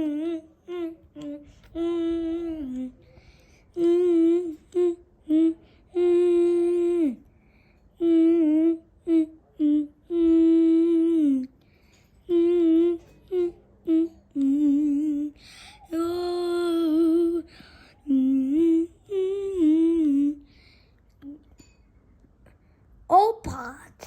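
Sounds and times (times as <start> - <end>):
person humming: 0.0 - 7.3, 8.0 - 11.6, 12.2 - 20.5, 21.2 - 21.5.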